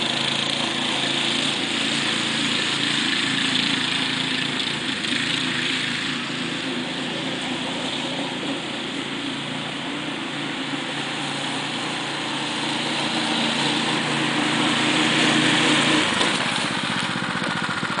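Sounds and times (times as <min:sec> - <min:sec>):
dune buggy engine running: 0:00.0 - 0:18.0.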